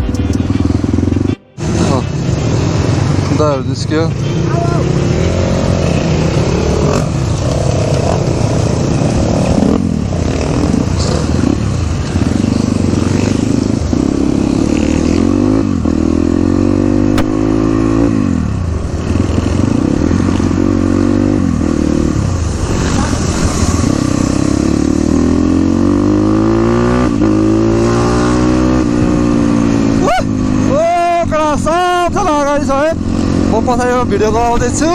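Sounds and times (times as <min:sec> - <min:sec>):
dirt bike engine accelerating: 0:00.0 - 0:34.9.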